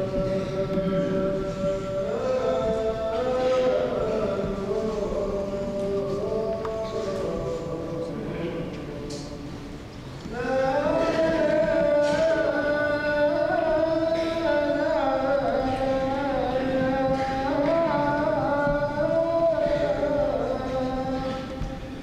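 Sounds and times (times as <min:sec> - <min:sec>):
liturgical chant: 0:00.0 - 0:22.0.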